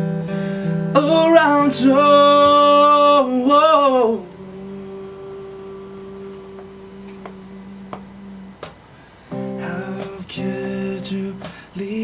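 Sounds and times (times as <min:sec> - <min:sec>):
faint low hum: 0:00.9 - 0:12.0.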